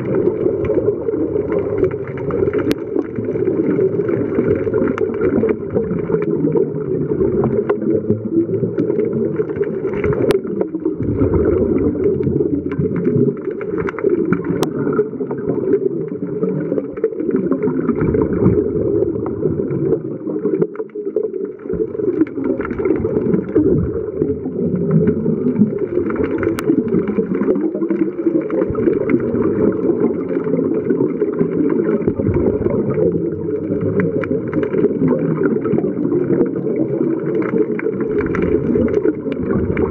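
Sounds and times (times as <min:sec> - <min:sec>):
diver's bubbles: 0:00.0 - 0:39.9
underwater rushing water: 0:00.0 - 0:39.9.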